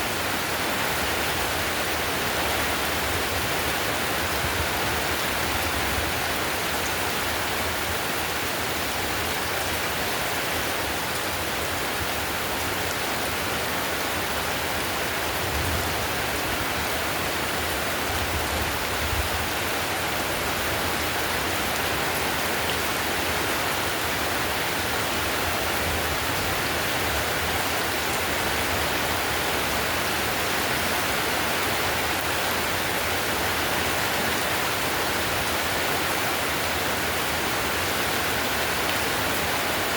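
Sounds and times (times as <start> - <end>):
heavy rain on tiled roof: 0.0 - 39.9.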